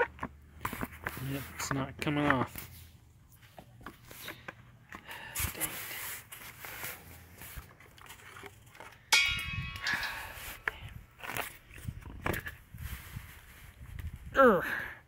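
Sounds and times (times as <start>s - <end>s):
things being handled: 0.0s - 14.1s.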